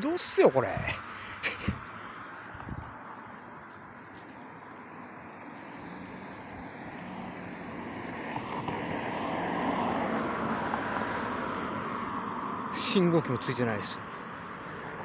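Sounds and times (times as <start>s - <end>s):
vehicle approaching and passing: 0.0s - 15.0s.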